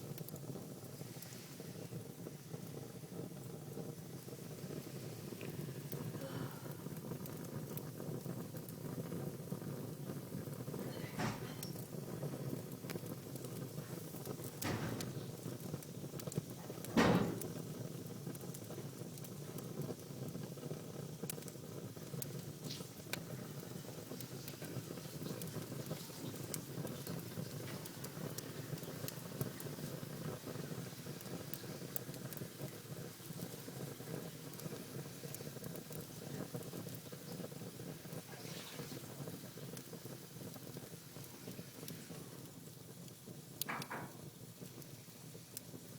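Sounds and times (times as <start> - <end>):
fire pops: 0.0 - 45.9
wood fire burning with crackles: 0.0 - 45.9.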